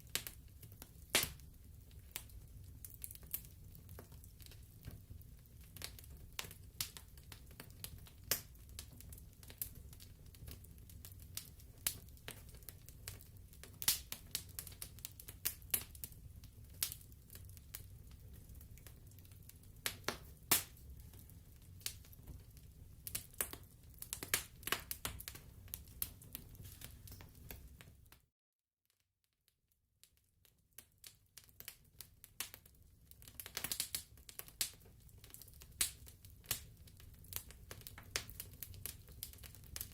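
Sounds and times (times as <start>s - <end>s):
wood fire crackling: 0.0s - 28.2s, 30.0s - 39.9s.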